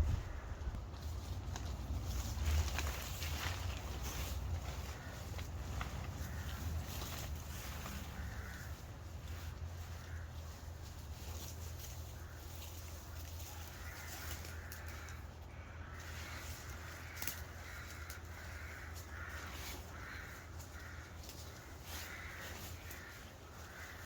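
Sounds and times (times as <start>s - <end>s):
crows cawing: 0.1s - 0.8s, 2.1s - 24.0s.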